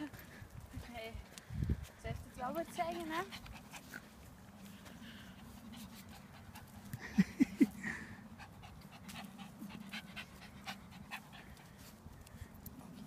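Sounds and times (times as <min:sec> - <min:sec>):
dog panting: 0:02.1 - 0:13.0.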